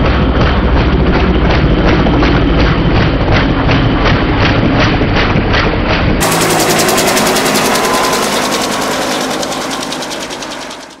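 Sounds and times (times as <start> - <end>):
helicopter rotor beating: 0.1 - 11.0.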